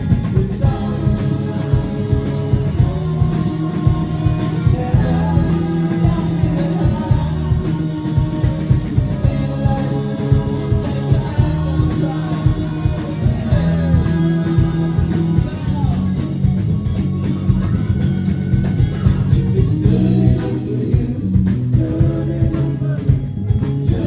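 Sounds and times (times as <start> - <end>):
man singing lead vocal: 0.0 - 18.0, 18.7 - 24.0
bass guitar: 0.0 - 24.0
electric guitar: 0.0 - 24.0
steady drum beat: 0.0 - 24.0.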